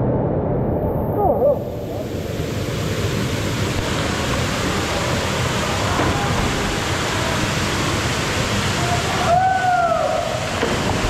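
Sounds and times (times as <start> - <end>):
waterfall pouring into pool: 1.2 - 11.0.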